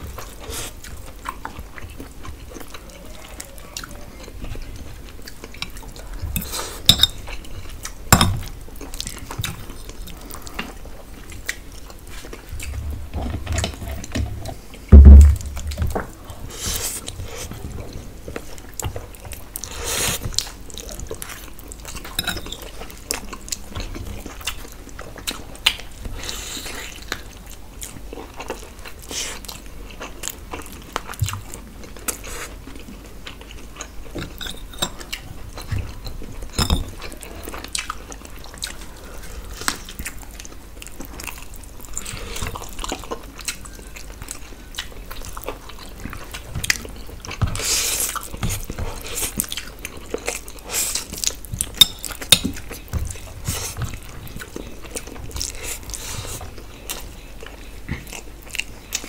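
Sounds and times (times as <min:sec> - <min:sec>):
chewing and mouth noises: 0:00.0 - 0:14.9, 0:15.7 - 0:59.0.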